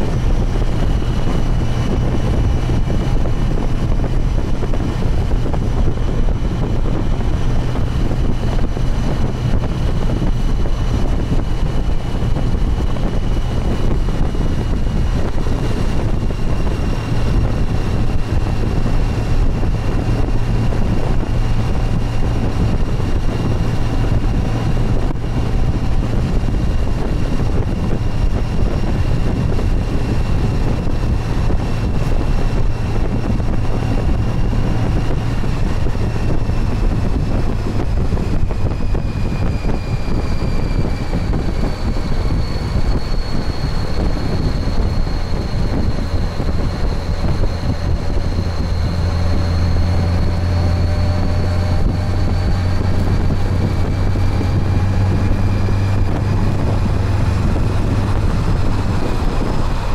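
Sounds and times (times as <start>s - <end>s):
motorcycle engine hum: 0.0s - 59.9s
wind noise on microphone: 0.0s - 59.9s.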